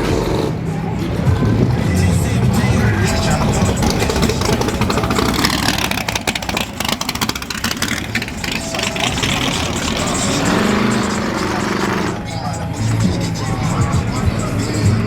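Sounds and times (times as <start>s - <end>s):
car engine revving: 0.0s - 15.0s
rapid exhaust pulses: 0.0s - 15.0s.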